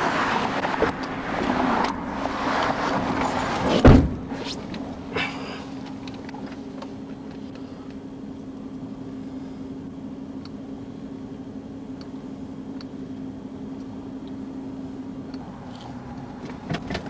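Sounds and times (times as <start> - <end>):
low hum inside car: 0.0 - 17.0.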